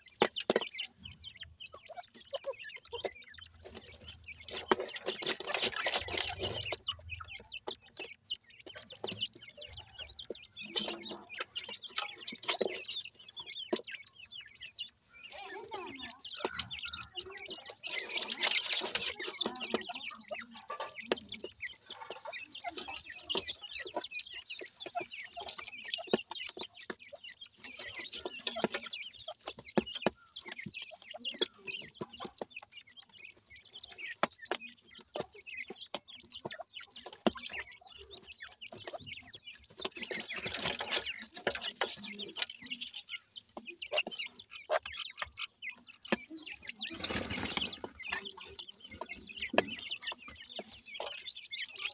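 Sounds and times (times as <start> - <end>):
beaks pecking in soil and pebbles: 0.0 - 51.9
hen and chicks clucking and peeping: 0.0 - 51.9
high bird calls: 0.0 - 51.9.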